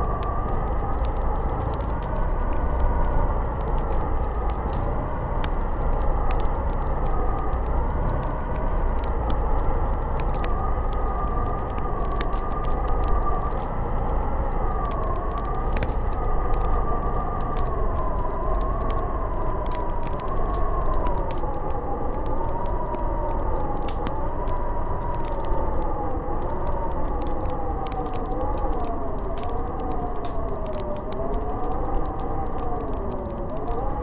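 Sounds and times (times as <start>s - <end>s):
deep rumbling gusts: 0.0s - 34.0s
wind howling: 0.0s - 34.0s.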